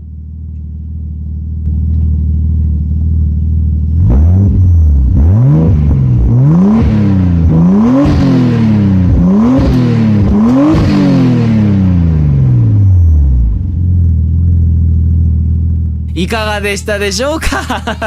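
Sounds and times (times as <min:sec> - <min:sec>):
engine idling and revving: 0:00.0 - 0:16.2.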